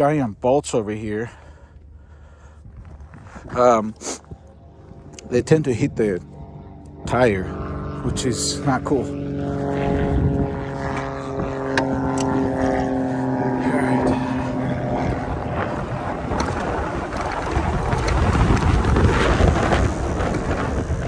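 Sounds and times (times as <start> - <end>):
wind noise on microphone: 2.2 - 21.0
electric motor whining: 3.0 - 21.0.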